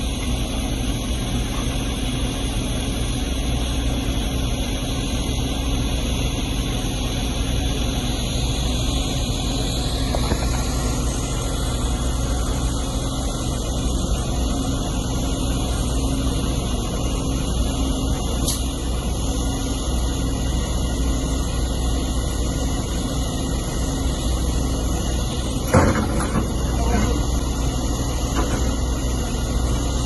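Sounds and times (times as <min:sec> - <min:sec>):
heavy diesel engines running: 0:00.0 - 0:30.0.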